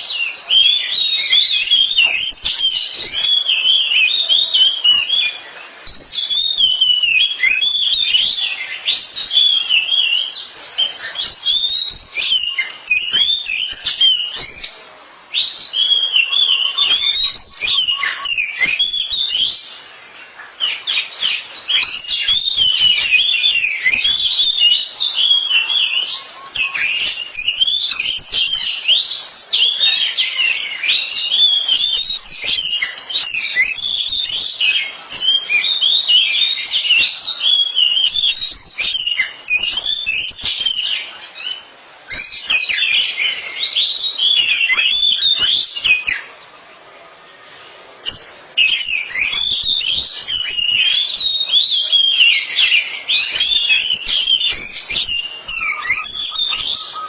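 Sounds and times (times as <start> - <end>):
birds singing whistled notes: 0.0 - 46.6, 47.2 - 57.0.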